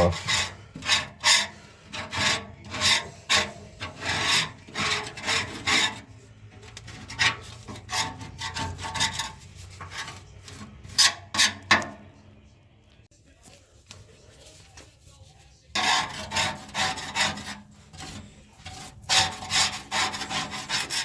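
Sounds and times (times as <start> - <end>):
scraper rasping on steel: 0.0 - 11.8, 15.7 - 21.0.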